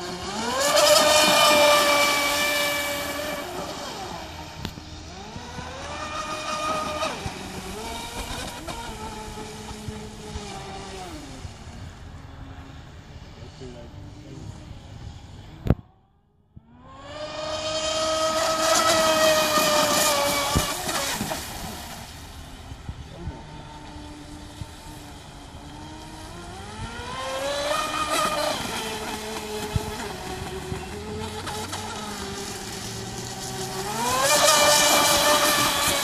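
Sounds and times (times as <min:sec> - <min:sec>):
electric motor whining: 0:00.0 - 0:12.6, 0:16.6 - 0:36.0.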